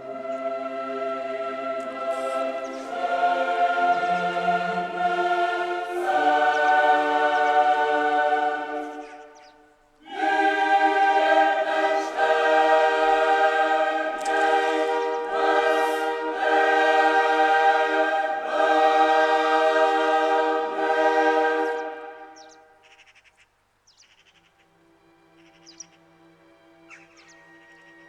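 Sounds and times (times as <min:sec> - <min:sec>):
choir singing sustained chords: 0:00.0 - 0:22.8, 0:24.7 - 0:28.0.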